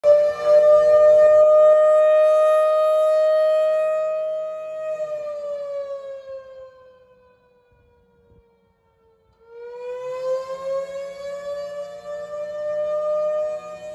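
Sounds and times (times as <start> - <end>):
fire station siren wailing: 0.0 - 13.9.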